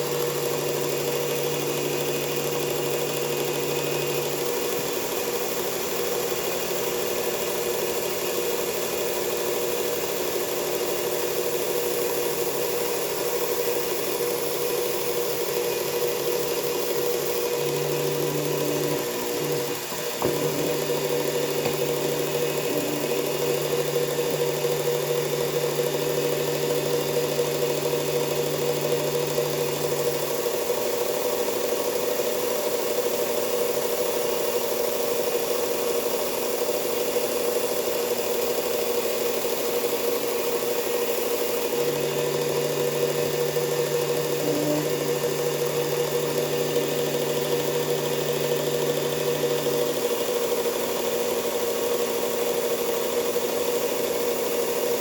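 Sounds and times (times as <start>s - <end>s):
belt sander motor running: 0.0s - 55.0s.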